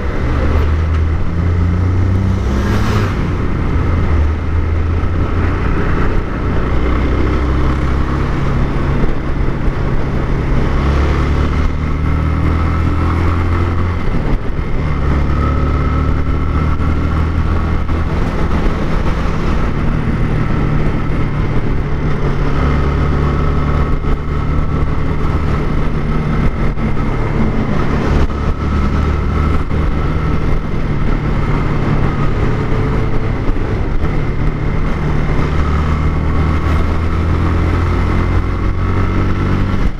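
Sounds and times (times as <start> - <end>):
motorcycle engine revving: 0.0 - 39.9
road and wind noise: 0.0 - 39.9.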